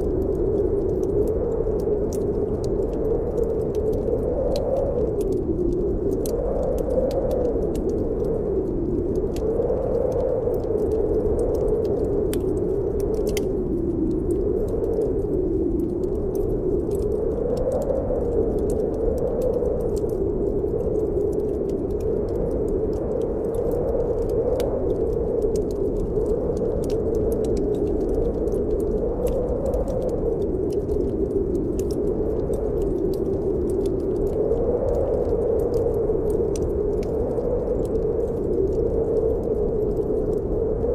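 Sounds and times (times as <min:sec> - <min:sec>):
snowstorm wind howling: 0:00.0 - 0:40.9
wood fire crackling and popping: 0:00.0 - 0:40.9.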